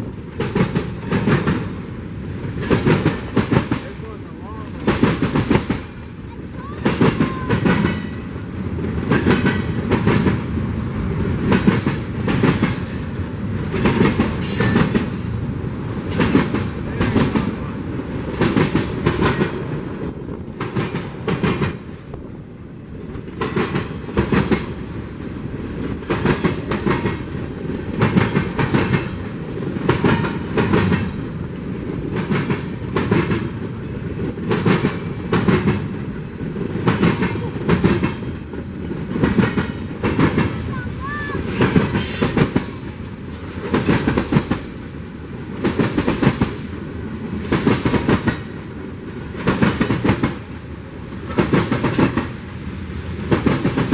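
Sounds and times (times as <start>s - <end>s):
train wheels clicking over rail joints: 0.0s - 22.3s, 22.9s - 53.9s
freight train rumble: 0.0s - 53.9s.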